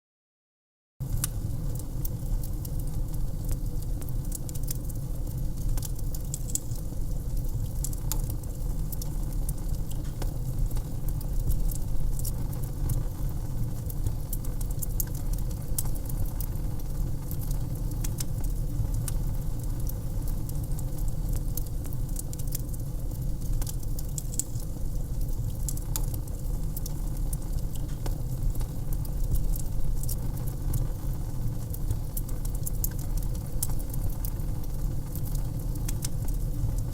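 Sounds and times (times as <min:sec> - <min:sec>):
low fire rumble: 0:01.0 - 0:36.9
wood fire crackling: 0:01.0 - 0:36.9.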